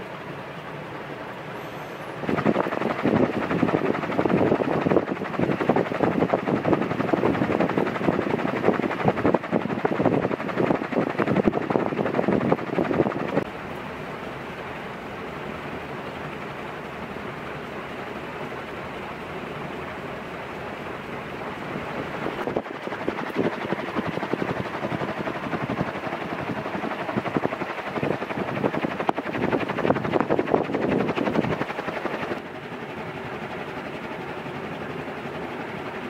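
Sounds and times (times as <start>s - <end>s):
ceiling fan rushing air: 0.0s - 36.0s.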